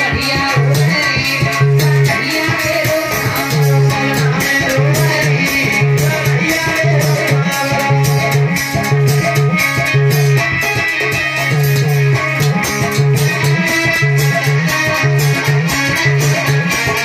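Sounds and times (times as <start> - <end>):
instrumental dance music: 0.0 - 17.0.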